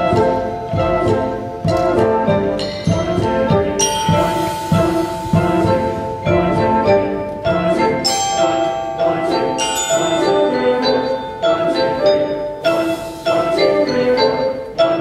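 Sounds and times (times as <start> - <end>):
held steady notes: 0.0 - 15.0
marimbas and vibraphones striking chords: 0.0 - 15.0.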